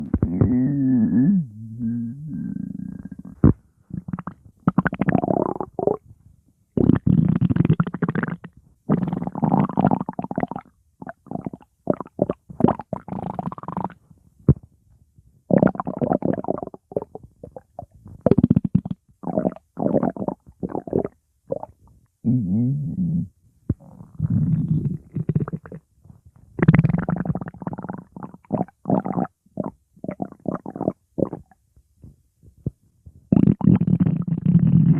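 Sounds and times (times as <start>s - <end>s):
stomach growling: 0.0s - 6.0s, 6.8s - 14.7s, 15.5s - 31.6s, 32.6s - 34.9s.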